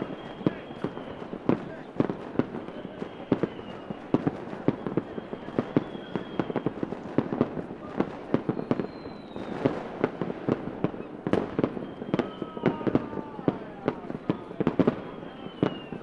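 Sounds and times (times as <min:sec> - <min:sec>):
faint high whistles: 0:00.0 - 0:01.9, 0:02.5 - 0:07.0, 0:08.3 - 0:09.8, 0:10.9 - 0:16.0
fireworks bangs and crackles: 0:00.0 - 0:16.0.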